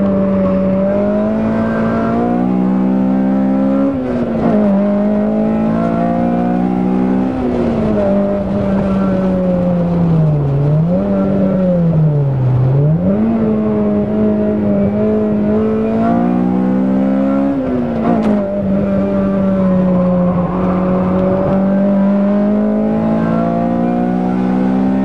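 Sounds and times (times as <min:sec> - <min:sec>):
car engine under hard load: 0:00.0 - 0:25.0.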